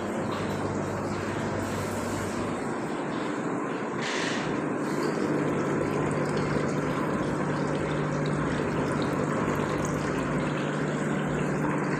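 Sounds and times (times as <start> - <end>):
electric water pumps humming: 0.0 - 11.9.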